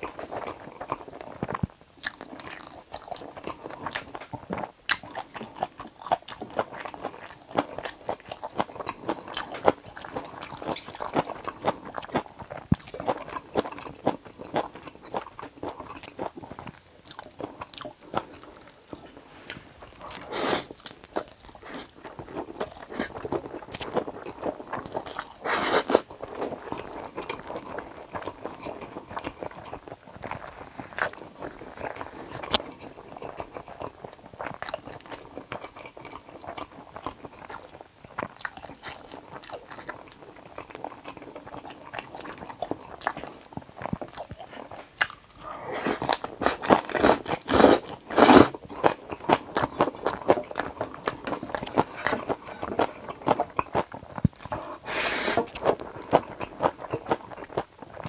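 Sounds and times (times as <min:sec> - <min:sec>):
close wet chewing of noodles: 0:00.0 - 0:58.0.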